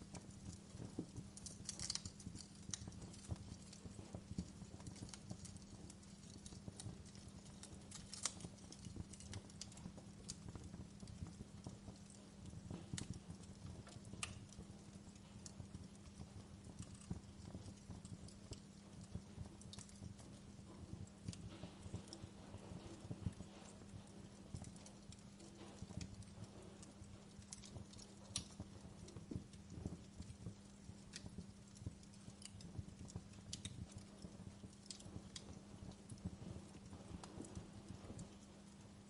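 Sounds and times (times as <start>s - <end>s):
low steady hum: 0.0s - 39.0s
wood fire crackling: 0.0s - 39.0s.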